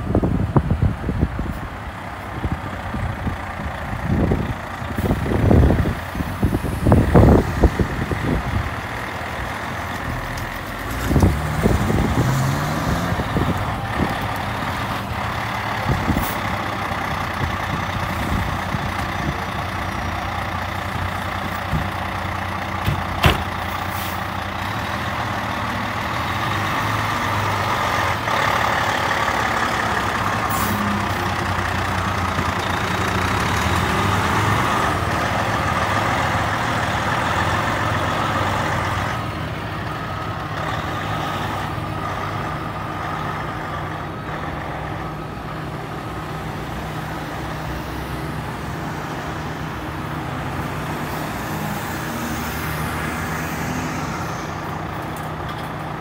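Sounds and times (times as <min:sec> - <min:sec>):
diesel truck engine revving: 0:00.0 - 0:56.0.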